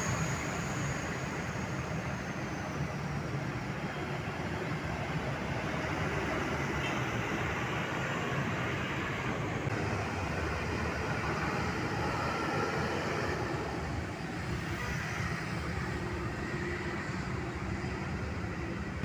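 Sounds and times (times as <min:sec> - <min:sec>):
heavy vehicle engines rumbling: 0:00.0 - 0:19.0.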